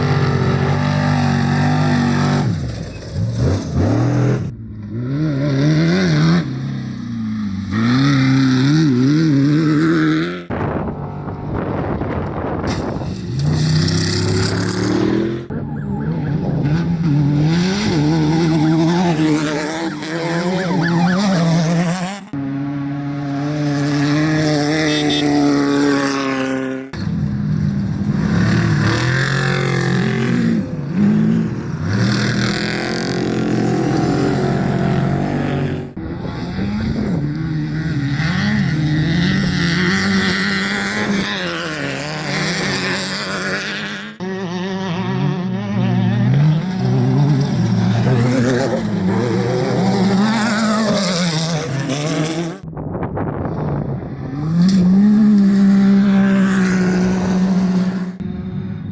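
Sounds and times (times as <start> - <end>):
race vehicle engines revving: 0.0 - 52.8, 53.5 - 58.9.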